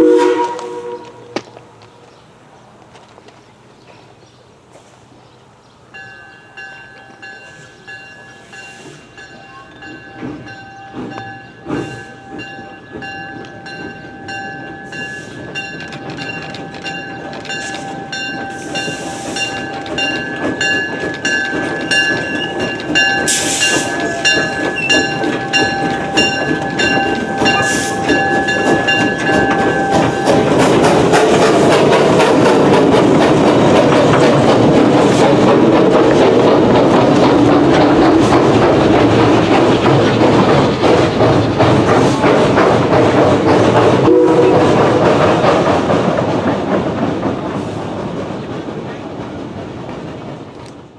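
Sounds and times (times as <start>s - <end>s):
steam locomotive chuffing: 6.3s - 50.9s.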